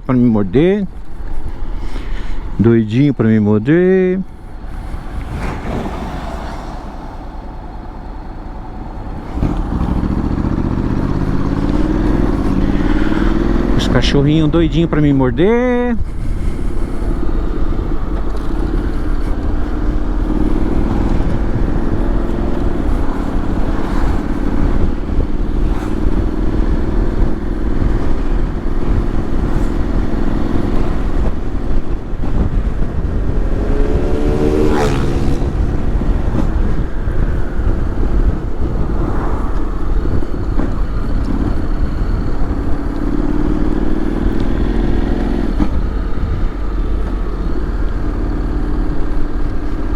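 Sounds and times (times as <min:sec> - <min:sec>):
wind rumble on microphone: 0:04.2 - 0:49.9
motorcycle engine running: 0:07.3 - 0:15.0, 0:16.0 - 0:49.9.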